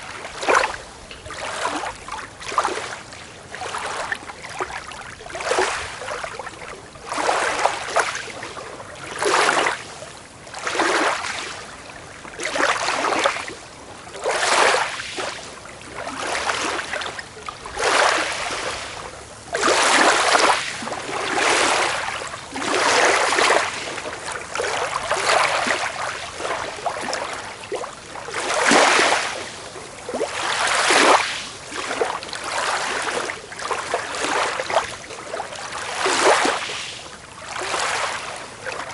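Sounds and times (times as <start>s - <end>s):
small waves washing on a beach: 0.0s - 38.9s.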